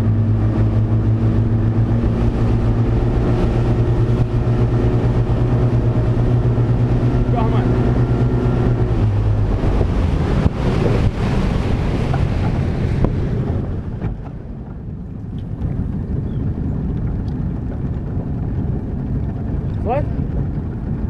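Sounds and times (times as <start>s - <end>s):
boat engine hum: 0.0s - 21.0s
water rushing past hull: 0.0s - 21.0s
wind buffeting microphone: 0.0s - 21.0s.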